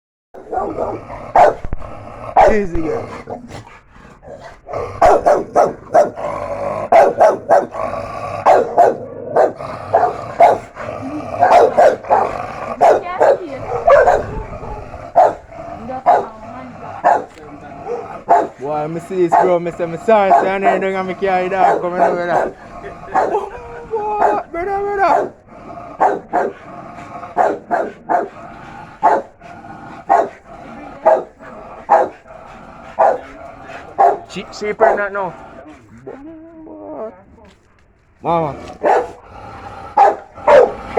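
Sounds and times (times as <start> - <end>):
dogs barking: 0.4 - 36.2, 38.6 - 40.9.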